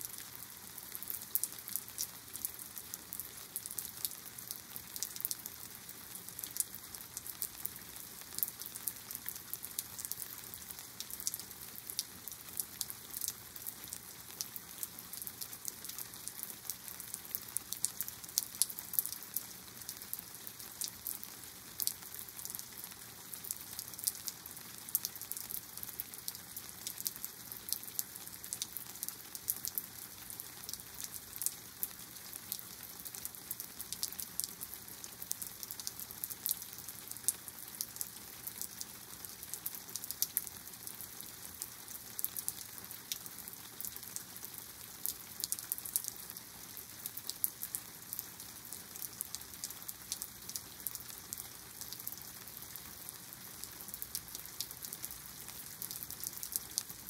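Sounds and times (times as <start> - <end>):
raindrops ticking close by: 0.0 - 57.0
steady rain: 0.0 - 57.0.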